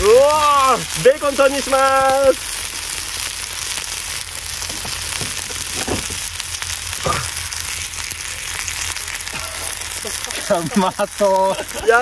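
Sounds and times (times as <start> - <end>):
eggs and bacon sizzling: 0.0 - 12.0.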